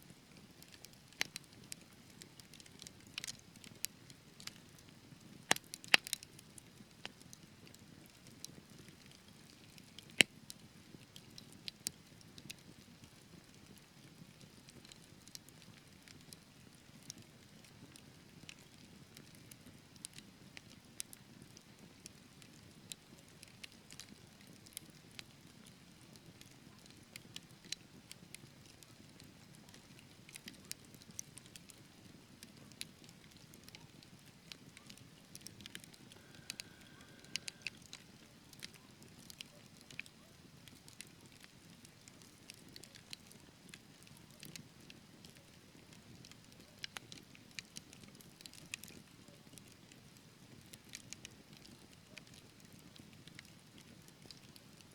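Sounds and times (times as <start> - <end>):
wood fire crackles and pops: 0.1 - 54.9.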